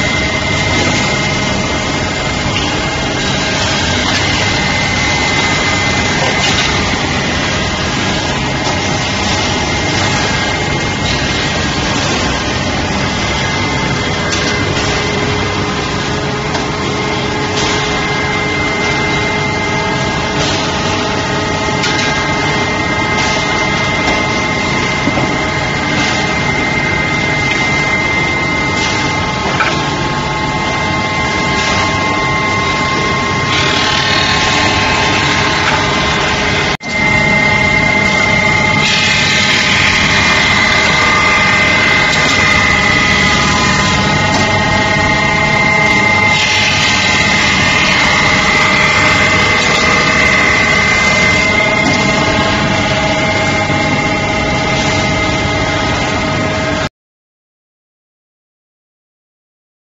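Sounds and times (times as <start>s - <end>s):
grinding machine drone: 0.0s - 56.9s.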